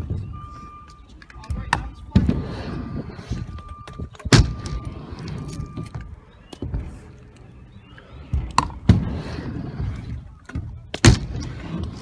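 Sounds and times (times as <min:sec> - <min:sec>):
scooter wheels rolling on wood: 0:00.0 - 0:12.0.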